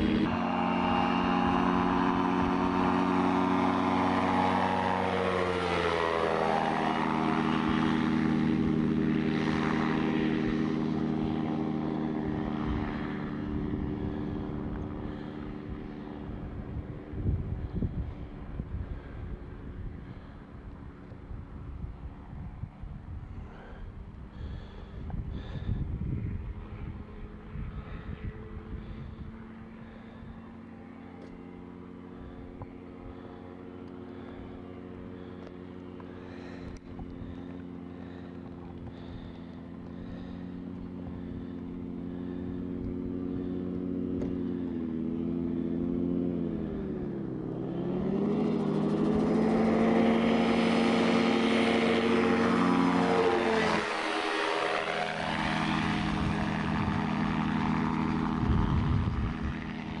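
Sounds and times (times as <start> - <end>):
gyrocopter engine and propeller droning: 0.0 - 60.0.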